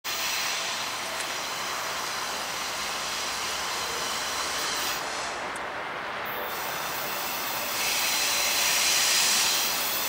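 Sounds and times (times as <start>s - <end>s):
distant train hiss: 0.1s - 10.0s.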